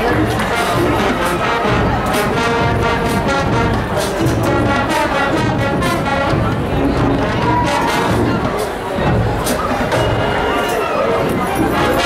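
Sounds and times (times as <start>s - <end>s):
steady drum beat: 0.0s - 10.6s
brass band sustained chords: 0.0s - 12.0s.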